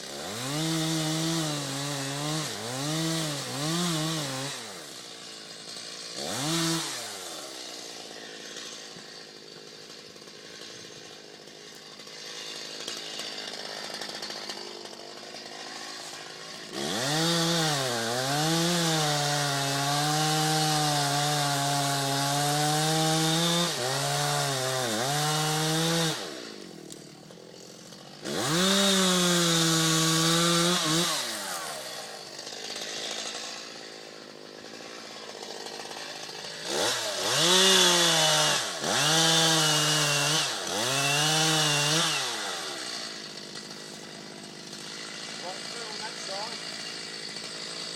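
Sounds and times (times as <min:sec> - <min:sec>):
chainsaw cutting into tree: 0:00.0 - 0:47.9.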